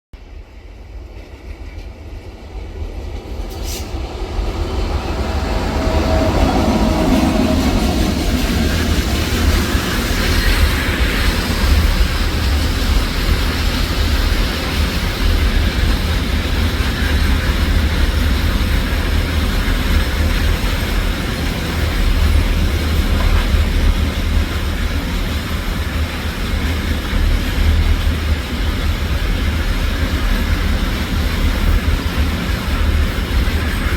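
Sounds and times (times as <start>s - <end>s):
freight train rumbling past: 0.2s - 33.9s.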